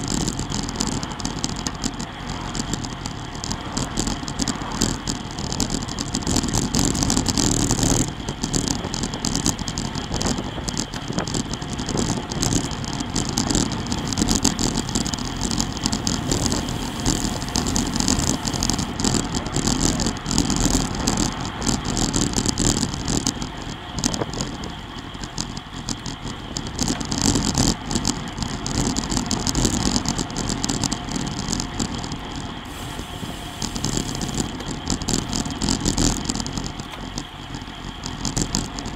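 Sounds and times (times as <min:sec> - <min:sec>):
bike rattle and clatter: 0:00.0 - 0:38.9
wind rushing over microphone: 0:00.0 - 0:38.9.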